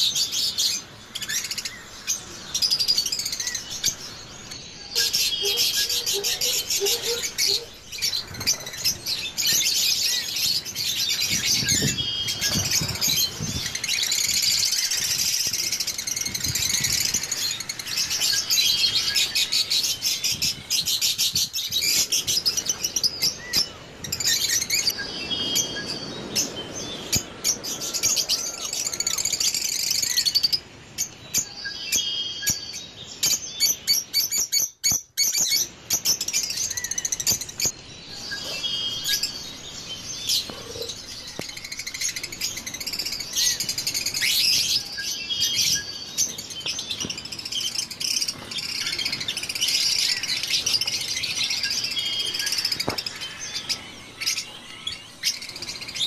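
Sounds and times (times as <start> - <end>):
caged birds chirping and trilling: 0.0 - 56.0.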